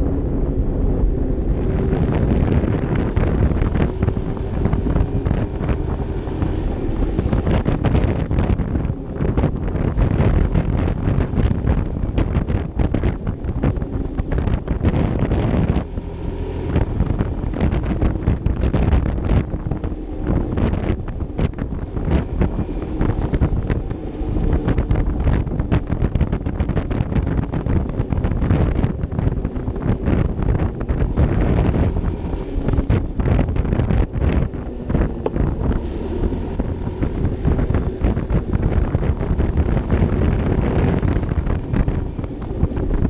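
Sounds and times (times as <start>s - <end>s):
scooter engine running: 0.0s - 43.0s
wind buffeting microphone: 0.0s - 43.0s.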